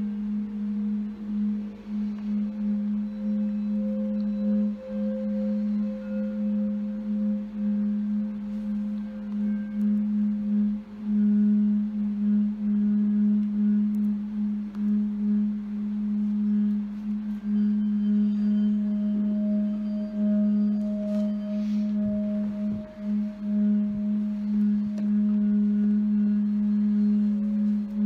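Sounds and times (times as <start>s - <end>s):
singing bowl humming: 0.0s - 28.0s.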